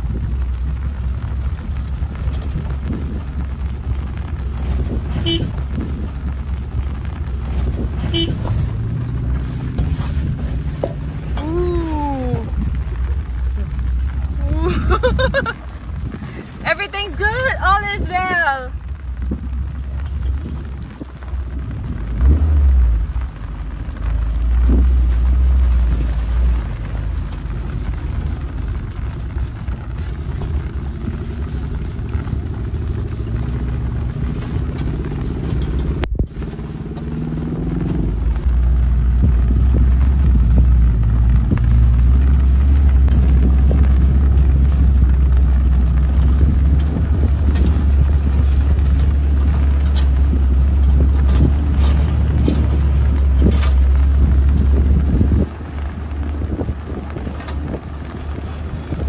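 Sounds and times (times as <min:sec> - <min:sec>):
jeep engine running: 0:00.0 - 0:59.0
low rumble over gravel: 0:00.0 - 0:59.0.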